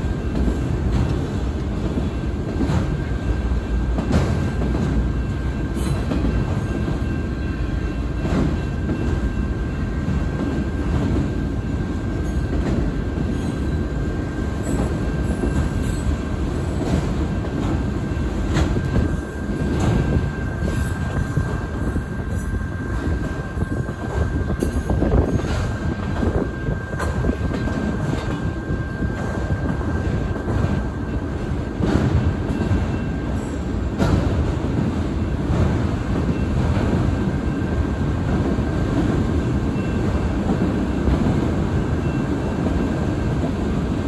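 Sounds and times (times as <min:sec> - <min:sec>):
freight train rumbling past: 0:00.0 - 0:44.0.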